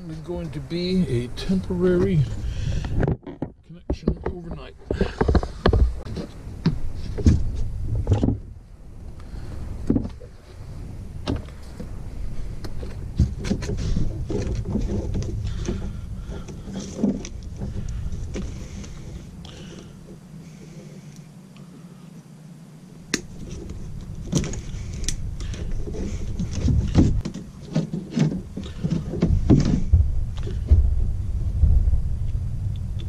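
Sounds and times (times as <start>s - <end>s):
low rumble: 0.0s - 21.1s, 22.7s - 27.2s, 28.4s - 33.0s.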